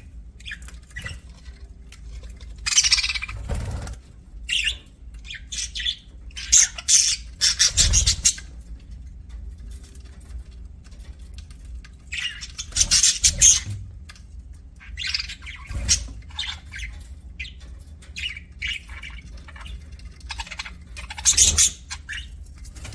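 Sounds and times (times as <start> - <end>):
budgerigars chirping and chattering: 0.0 - 8.8, 11.3 - 22.9.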